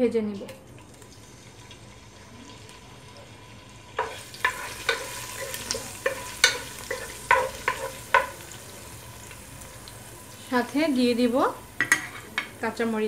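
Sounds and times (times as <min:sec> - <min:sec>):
onion sizzling in hot oil: 0:00.9 - 0:13.0.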